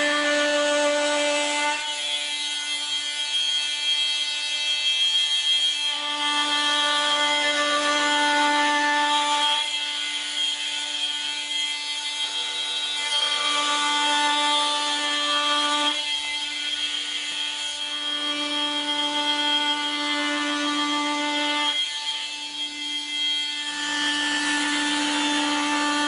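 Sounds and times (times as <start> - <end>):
oscillating multitool buzzing: 0.0 - 26.0.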